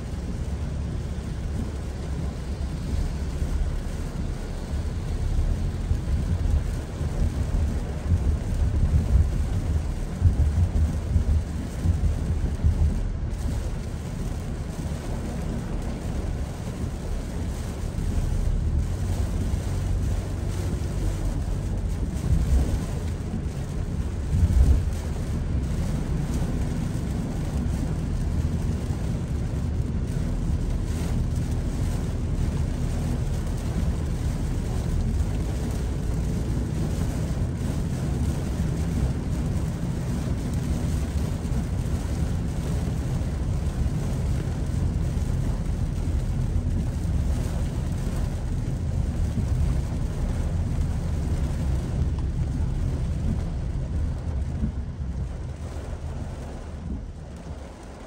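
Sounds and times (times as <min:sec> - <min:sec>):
heavy rain on a car: 0:00.0 - 0:58.0
tyre noise on wet road: 0:00.0 - 0:58.0.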